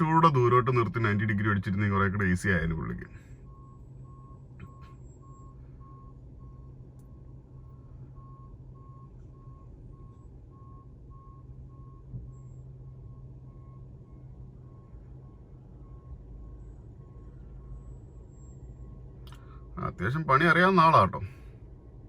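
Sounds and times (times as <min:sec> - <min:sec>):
truck backup alarm beeping: 0:00.0 - 0:22.0
truck engine humming: 0:00.0 - 0:22.0.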